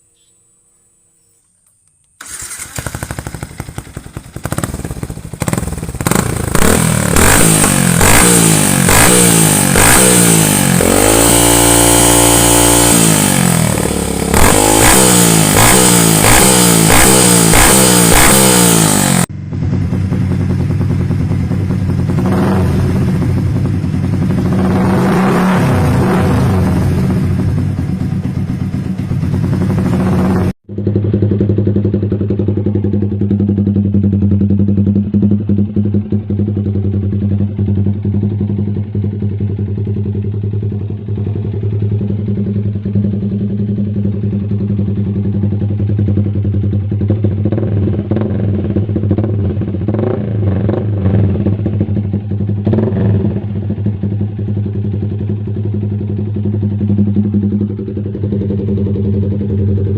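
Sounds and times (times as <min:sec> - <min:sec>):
motorcycle engine revving: 0:02.2 - 0:59.9.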